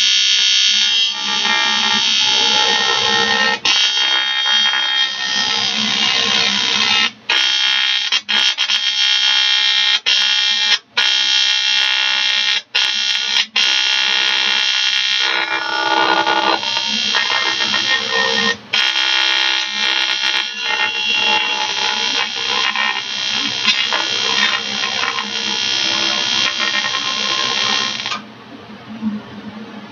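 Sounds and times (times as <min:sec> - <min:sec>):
welding arc buzzing: 0:00.0 - 0:28.2.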